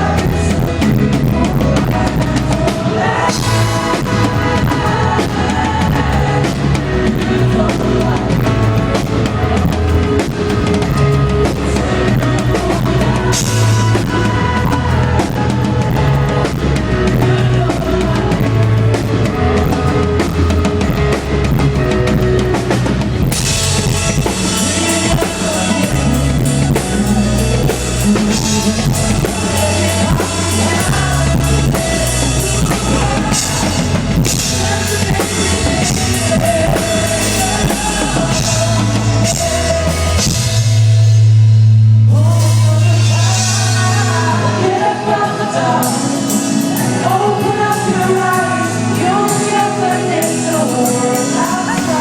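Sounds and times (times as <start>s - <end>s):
person singing: 0.0s - 41.0s, 42.1s - 52.0s
pop-rock band playing: 0.0s - 52.0s.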